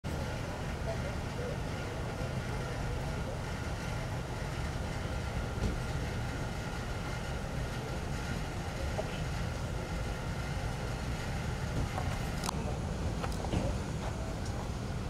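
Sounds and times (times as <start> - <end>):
vehicles idling: 0.1 - 15.0.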